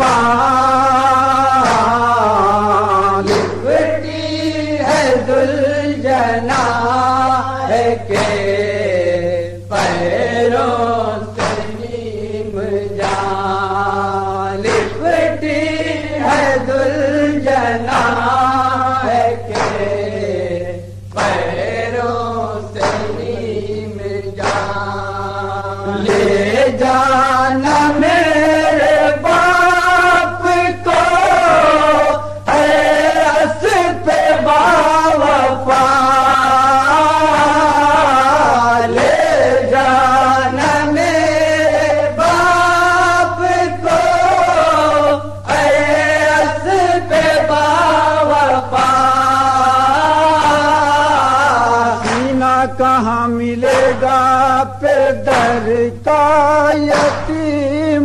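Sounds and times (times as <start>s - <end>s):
steady low hum: 0.0s - 58.0s
voices chanting a slow lament: 0.0s - 58.0s.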